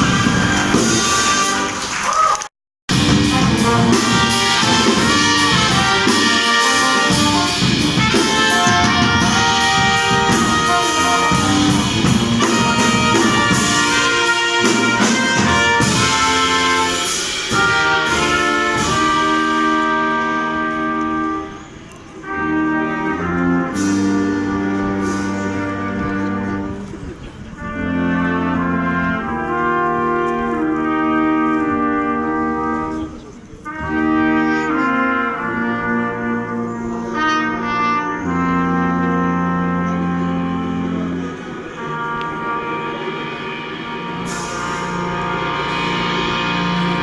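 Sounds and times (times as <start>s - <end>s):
trombone: 0.0s - 2.0s, 2.9s - 47.0s
trumpet: 0.0s - 47.0s.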